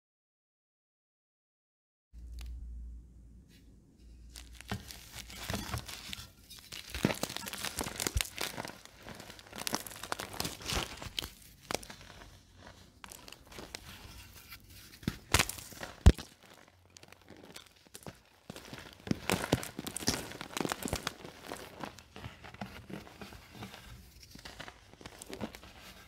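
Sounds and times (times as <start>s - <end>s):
hands crushing a hard block: 4.4s - 26.0s.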